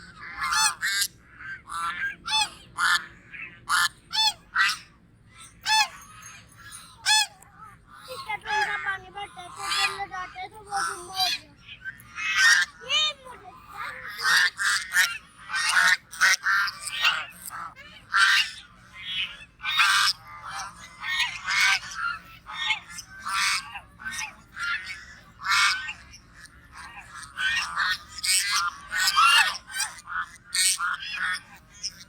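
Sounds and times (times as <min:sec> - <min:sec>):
goose honking: 0:00.0 - 0:32.0.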